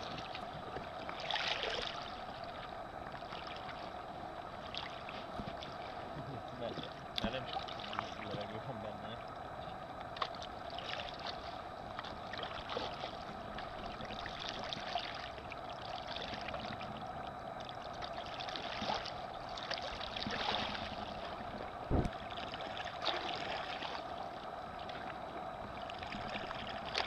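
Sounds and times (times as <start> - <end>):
water splashing around kayak: 0.0 - 27.0.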